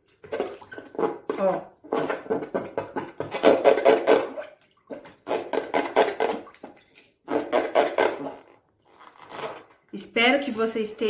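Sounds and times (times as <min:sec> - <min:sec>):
water splashing and sloshing: 0:00.0 - 0:09.9.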